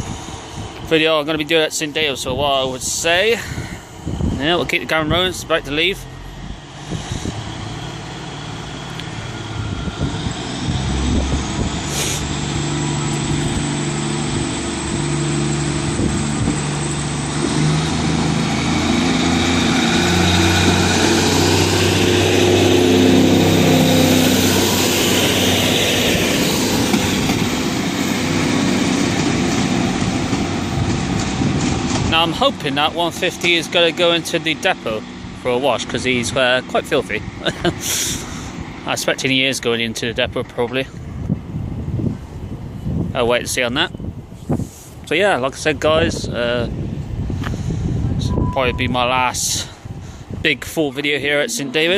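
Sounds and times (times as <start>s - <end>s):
train diesel engines revving: 0.0s - 43.1s, 46.4s - 51.9s.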